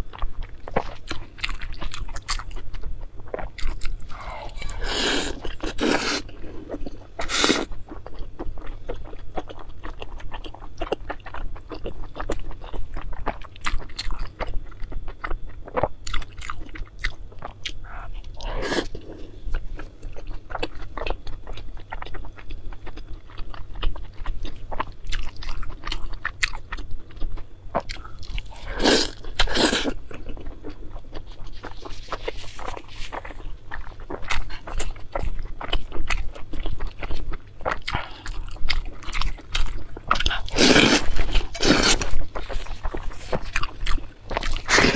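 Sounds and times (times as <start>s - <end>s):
wet chewing and mouth sounds: 0.0s - 44.9s.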